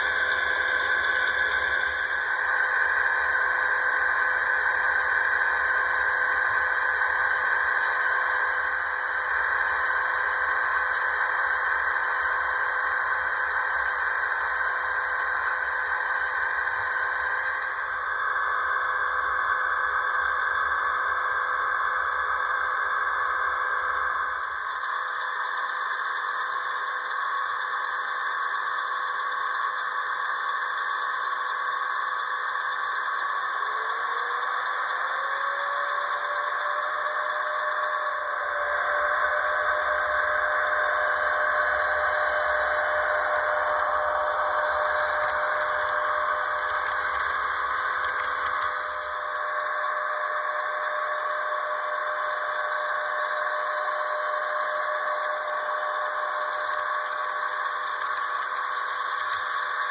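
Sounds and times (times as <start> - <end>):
model trains running on track: 0.0 - 59.9.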